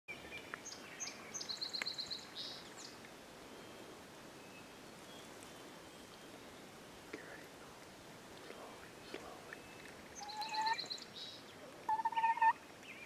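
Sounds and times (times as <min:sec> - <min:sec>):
songbirds chirping and trilling: 0:00.1 - 0:13.0
faint outdoor hush: 0:00.3 - 0:13.0.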